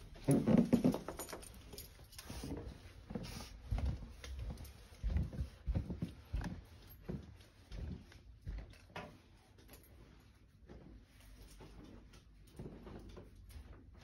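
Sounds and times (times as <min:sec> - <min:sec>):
footsteps on carpeted stairs: 0:00.0 - 0:14.0.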